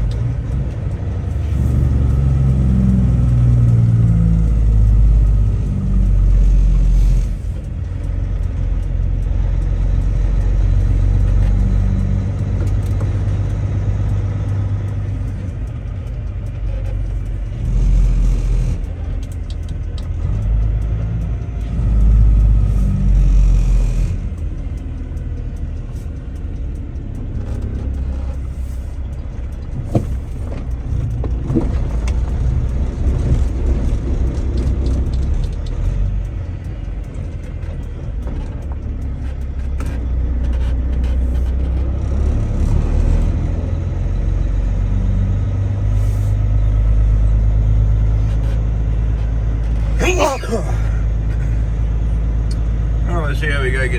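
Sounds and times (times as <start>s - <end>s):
sharp clicks: 0.0s - 44.5s
truck engine and road rumble: 0.0s - 53.9s.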